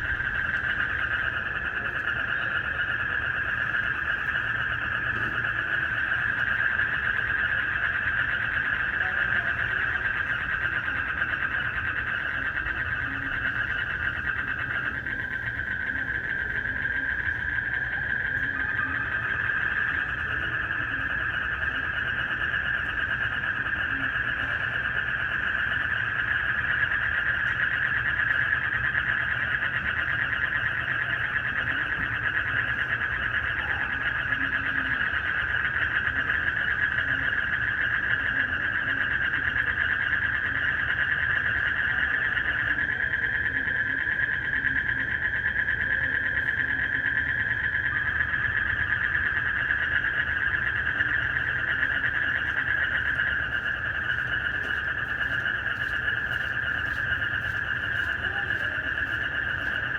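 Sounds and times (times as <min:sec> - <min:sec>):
crickets trilling: 0:00.0 - 0:59.9
frogs calling: 0:00.0 - 0:59.9.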